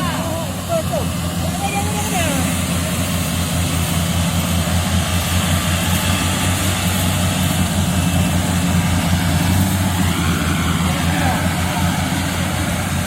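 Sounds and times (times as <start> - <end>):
combine harvester engine running: 0.0 - 13.0.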